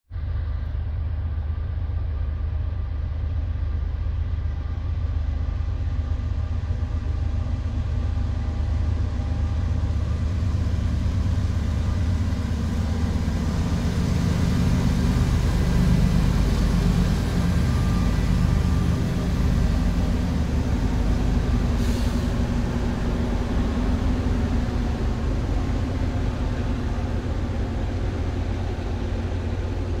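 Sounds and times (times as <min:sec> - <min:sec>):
diesel train passing: 0:00.2 - 0:30.0.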